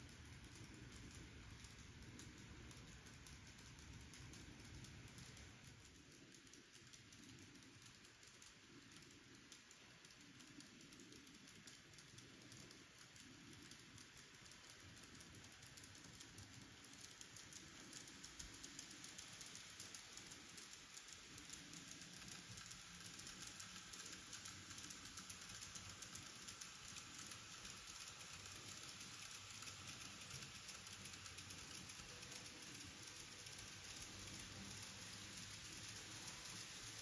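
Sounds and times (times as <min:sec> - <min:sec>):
toy train wheels clicking on rails: 0:00.0 - 0:37.0.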